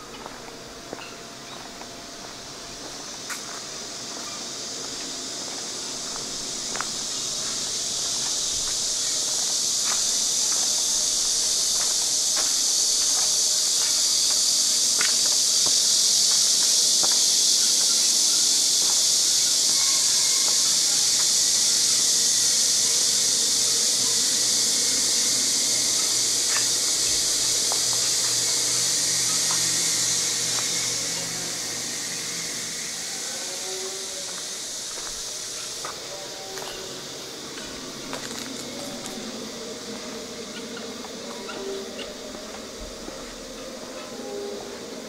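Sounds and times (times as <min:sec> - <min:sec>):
cicadas singing: 0:00.0 - 0:45.0.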